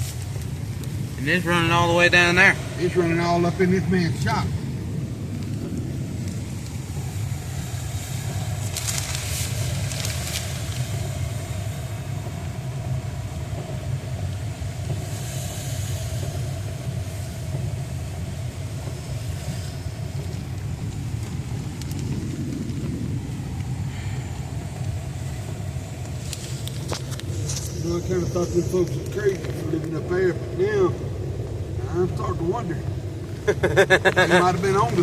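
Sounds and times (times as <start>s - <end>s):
vehicle engine rumble: 0.0s - 35.0s.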